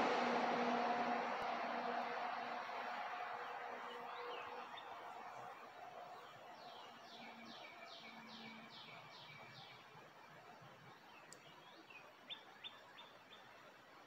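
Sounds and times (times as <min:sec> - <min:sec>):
songbird singing: 0:00.0 - 0:13.7
outdoor background hiss: 0:00.0 - 0:14.0.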